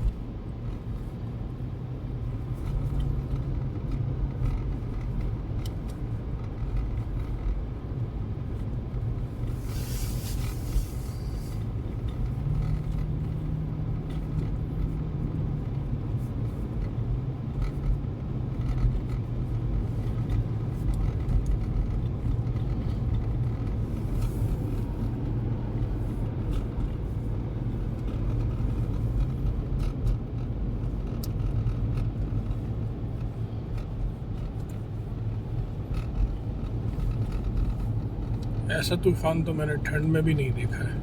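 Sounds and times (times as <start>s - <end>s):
car driving inside cabin: 0.0s - 41.0s.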